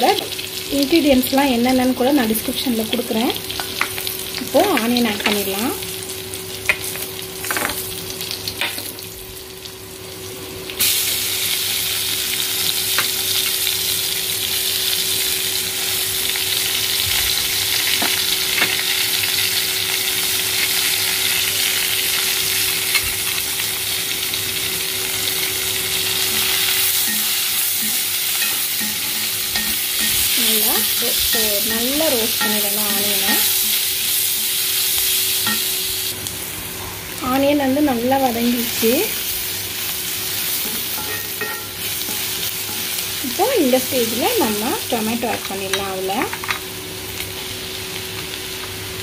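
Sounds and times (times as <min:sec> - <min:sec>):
onions sizzling in hot oil: 0:00.0 - 0:49.0.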